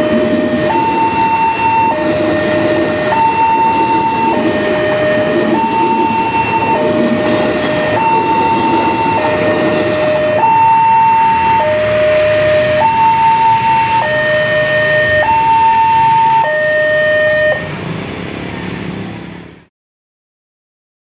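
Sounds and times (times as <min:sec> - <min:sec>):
level crossing warning alarm: 0:00.0 - 0:17.9.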